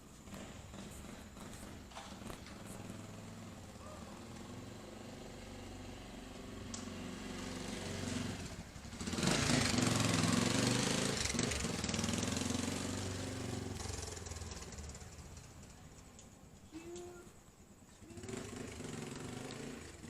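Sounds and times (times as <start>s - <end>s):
vehicle passing with rushing noise: 0.0s - 16.0s, 18.2s - 20.0s
vehicle engine running: 0.0s - 16.1s, 18.0s - 20.0s.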